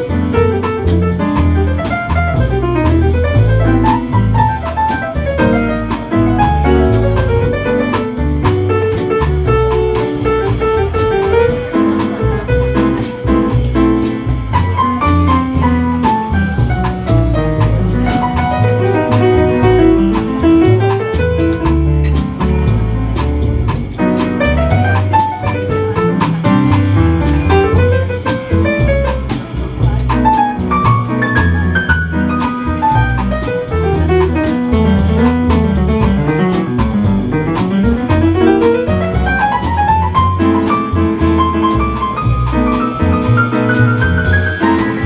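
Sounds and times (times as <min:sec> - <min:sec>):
drum and cymbal strikes: 0:00.0 - 0:45.0
jazz piano: 0:00.0 - 0:45.0
low bass line: 0:00.0 - 0:45.0.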